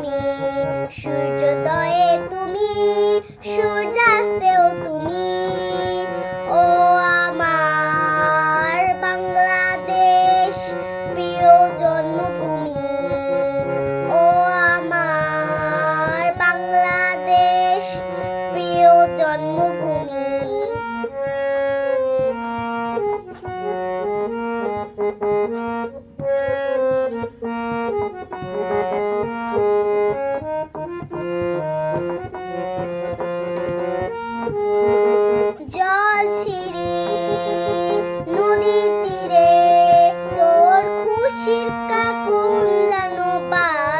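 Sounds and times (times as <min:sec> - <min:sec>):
girl singing: 0:00.0 - 0:24.9, 0:29.9 - 0:43.9
instrumental backing music: 0:00.0 - 0:43.9.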